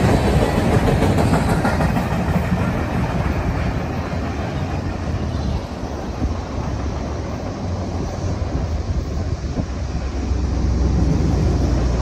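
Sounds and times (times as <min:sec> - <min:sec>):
freight train cars rolling on rails: 0:00.0 - 0:12.0.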